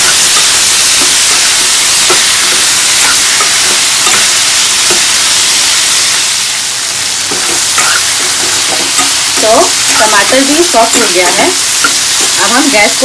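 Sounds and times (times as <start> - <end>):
steel spoon scraping a pan: 0.0 - 5.5, 7.3 - 12.8
vegetables sizzling in hot oil: 0.0 - 13.0.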